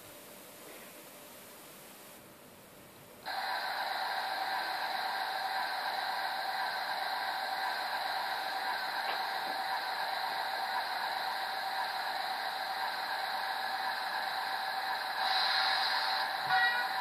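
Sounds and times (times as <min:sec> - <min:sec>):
synthesized diesel locomotive sound: 0:03.2 - 0:17.0
steady hiss with whistling tones: 0:03.3 - 0:17.0.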